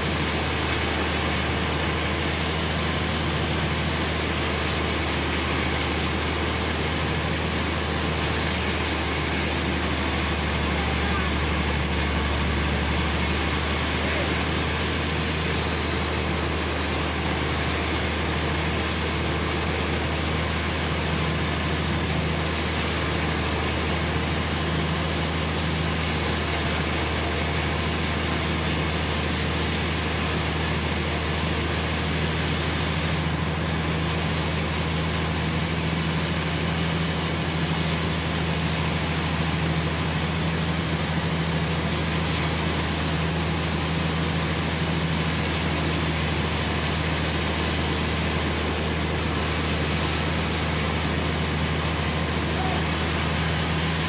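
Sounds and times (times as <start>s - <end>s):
sawmill sawing a log: 0.0s - 54.0s.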